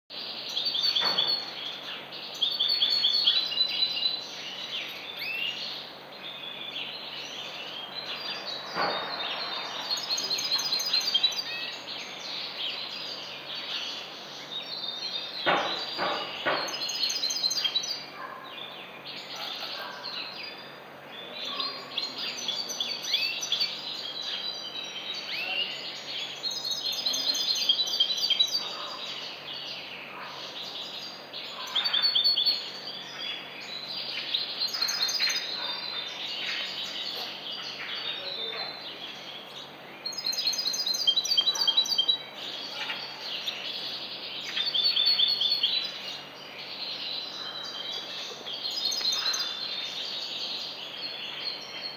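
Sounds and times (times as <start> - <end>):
goldfinch twittering song: 0.4 - 20.6, 21.4 - 51.9.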